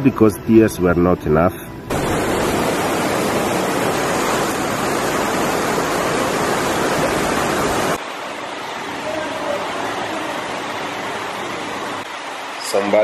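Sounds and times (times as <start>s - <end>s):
heavy rain hissing: 1.9s - 13.0s.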